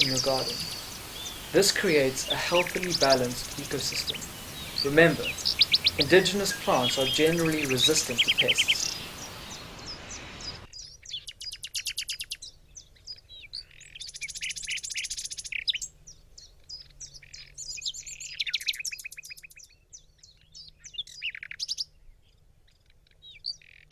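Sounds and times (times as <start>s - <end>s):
songbirds singing and chirping: 0.0s - 23.9s.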